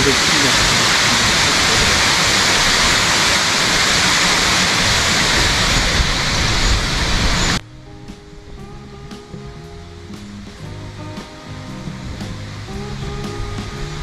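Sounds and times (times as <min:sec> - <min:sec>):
mountain stream rushing: 0:00.0 - 0:07.6, 0:08.4 - 0:14.0.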